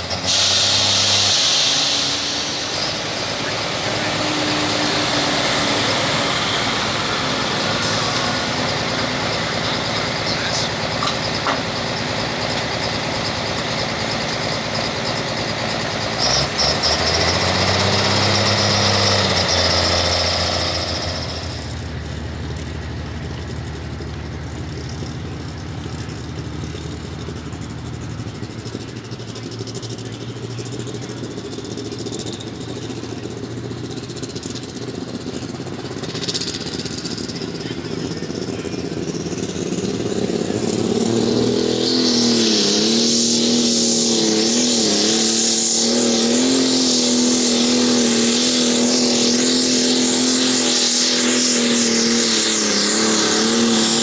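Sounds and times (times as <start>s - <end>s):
tractor diesel engine roaring: 0.0s - 54.0s.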